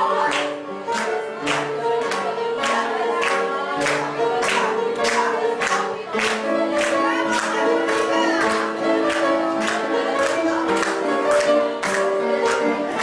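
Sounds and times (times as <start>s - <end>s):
people clapping in time: 0.2s - 13.0s.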